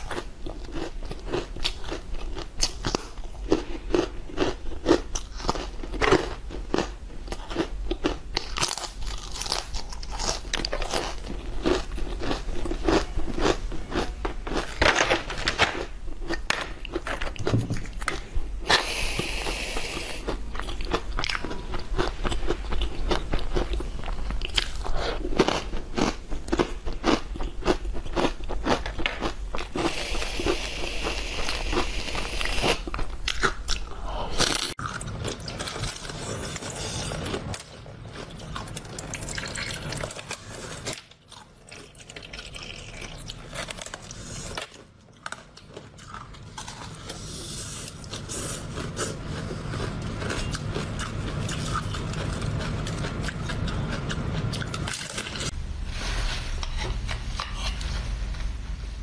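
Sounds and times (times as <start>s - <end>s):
chewing frozen ice block: 0.0s - 14.8s, 15.8s - 55.5s
crunching crisps: 0.0s - 18.3s, 20.2s - 55.5s.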